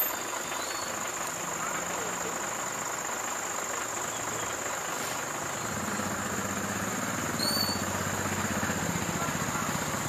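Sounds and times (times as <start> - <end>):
heavy engine idling: 0.0 - 10.0.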